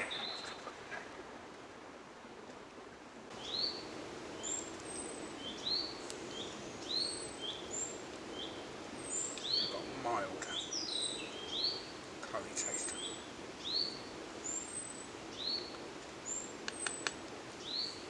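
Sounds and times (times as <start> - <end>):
songbird chirping: 0.0 - 1.2, 3.3 - 18.0
low background hiss: 0.0 - 18.0.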